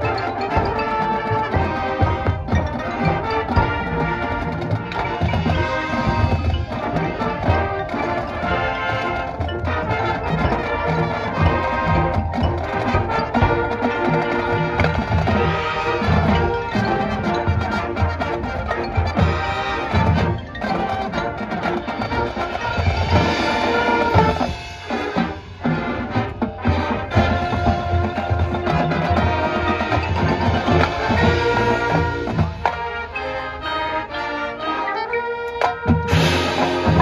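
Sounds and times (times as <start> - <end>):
brass chords: 0.0 - 37.0
drumline strikes: 0.0 - 37.0
mallet percussion: 0.0 - 37.0.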